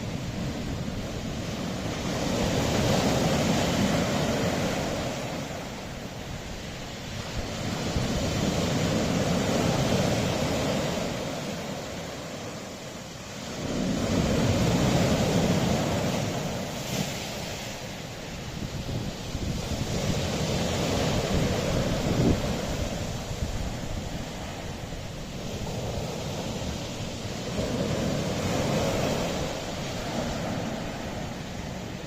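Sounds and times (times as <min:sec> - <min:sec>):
wind buffeting microphone: 0:00.0 - 0:12.5, 0:13.2 - 0:32.0
waves on rocky shore: 0:00.0 - 0:32.0.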